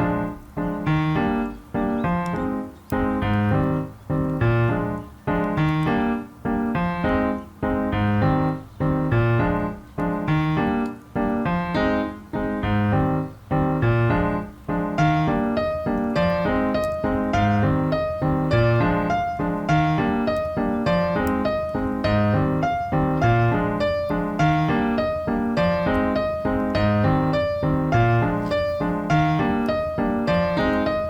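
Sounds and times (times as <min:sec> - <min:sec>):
piano chords: 0:00.0 - 0:31.0.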